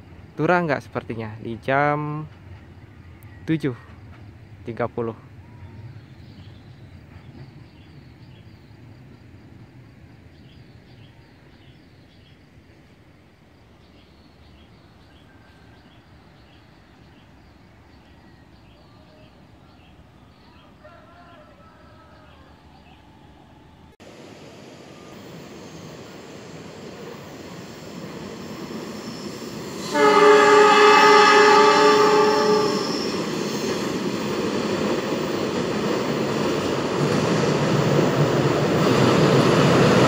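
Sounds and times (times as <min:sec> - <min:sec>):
diesel train rumbling: 0:00.0 - 0:20.7, 0:22.5 - 0:40.0.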